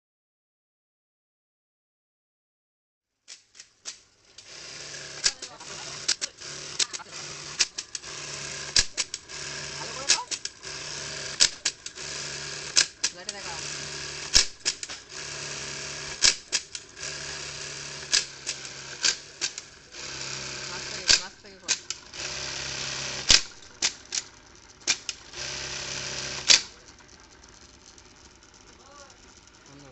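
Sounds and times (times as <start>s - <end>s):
sewing machine clacking: 3.8s - 29.9s.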